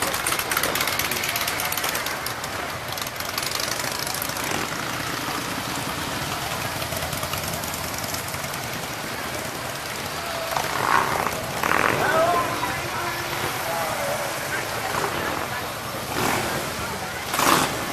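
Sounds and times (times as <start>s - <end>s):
motorcycles riding past: 0.0s - 17.9s.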